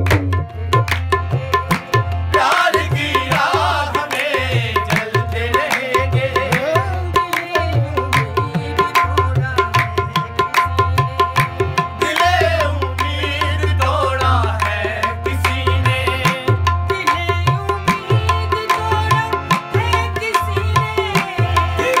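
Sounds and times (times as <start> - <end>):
tabla playing fast rhythm: 0.0 - 22.0.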